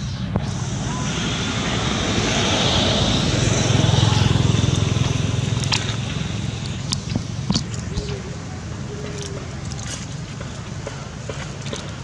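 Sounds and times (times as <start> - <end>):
vehicle engine passing by: 0.0 - 11.1.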